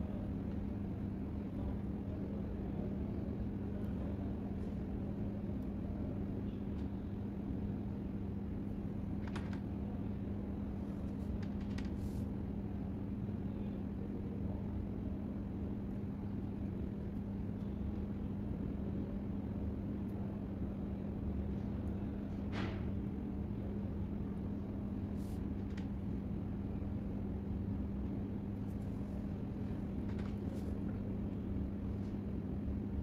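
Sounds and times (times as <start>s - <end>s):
low hum and rumble: 0.0s - 33.0s.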